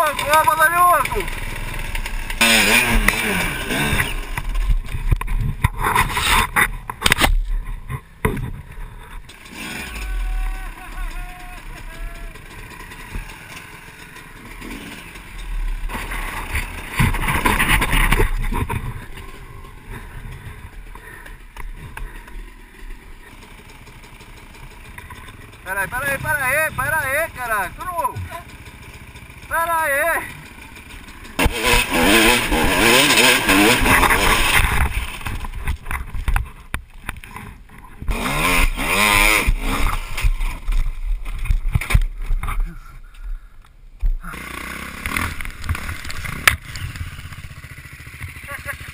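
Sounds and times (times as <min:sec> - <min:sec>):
dirt bike engine running: 0:00.0 - 0:48.9.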